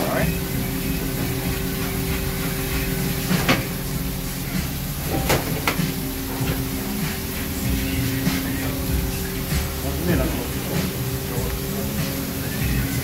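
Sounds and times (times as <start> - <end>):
processing machinery hum: 0.0 - 13.0.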